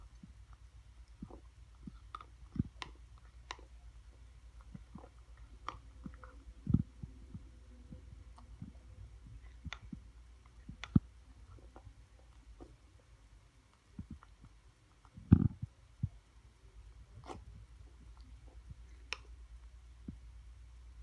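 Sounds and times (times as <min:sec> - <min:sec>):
cat chewing and grinding teeth: 0:00.0 - 0:16.3, 0:16.9 - 0:20.2.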